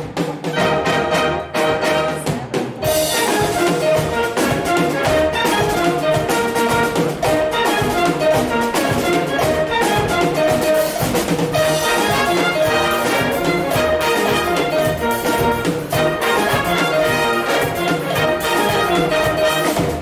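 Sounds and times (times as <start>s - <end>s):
percussion beat: 0.0s - 20.0s
brass carrying tune: 0.4s - 20.0s.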